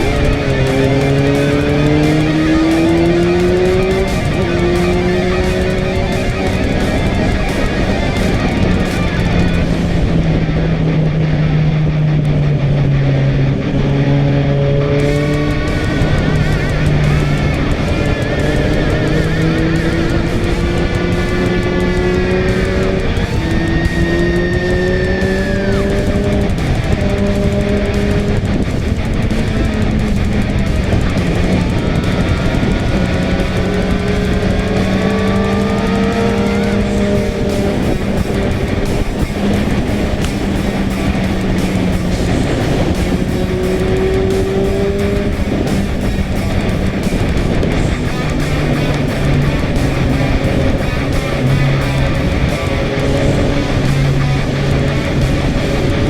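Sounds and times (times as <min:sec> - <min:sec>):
electric guitar music: 0:00.0 - 0:56.0
motorcycle riding: 0:00.0 - 0:56.0
wind and road noise: 0:00.0 - 0:56.0.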